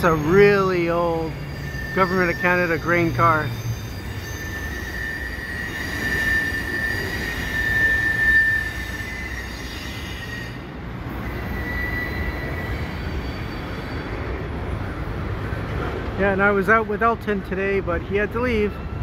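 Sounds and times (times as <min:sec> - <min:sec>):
train wheels squealing: 0:00.0 - 0:15.0, 0:18.6 - 0:19.0.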